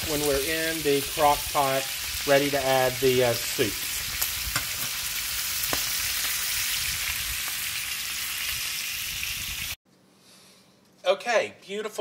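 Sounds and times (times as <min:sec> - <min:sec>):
meat sizzling in frying pan: 0:00.0 - 0:09.8.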